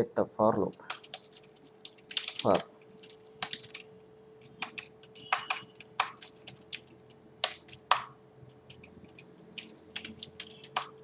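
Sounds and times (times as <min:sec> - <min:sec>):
faint steady hum: 0:00.0 - 0:11.0
typing on computer keyboard: 0:00.7 - 0:11.0.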